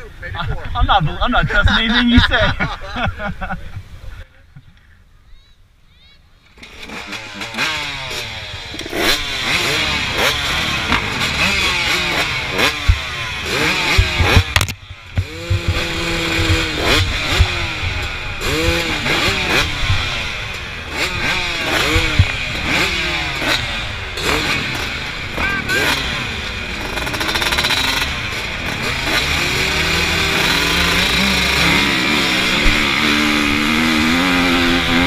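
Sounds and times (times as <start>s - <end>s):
motocross bikes revving: 0.0s - 3.2s, 6.4s - 35.0s.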